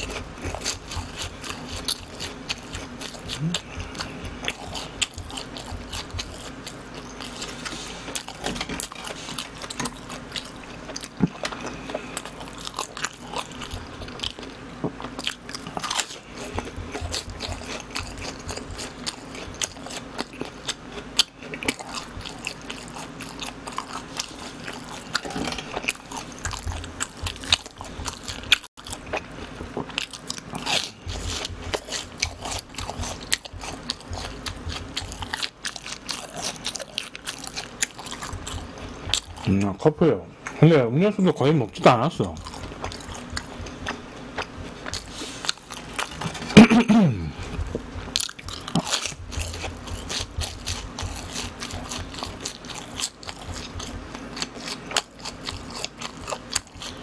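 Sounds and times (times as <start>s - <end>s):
crunchy chewing and biting: 0.0s - 57.0s.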